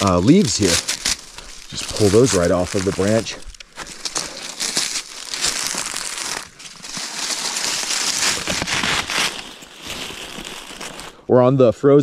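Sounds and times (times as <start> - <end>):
dry leaves crackling and rustling: 0.0 - 11.2.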